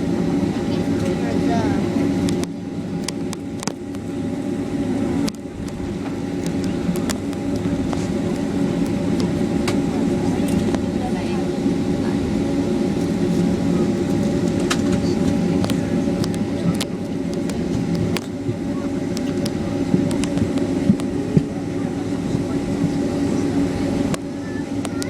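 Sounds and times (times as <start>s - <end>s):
engine whine: 0.0s - 25.0s
jet engines humming: 0.0s - 25.0s.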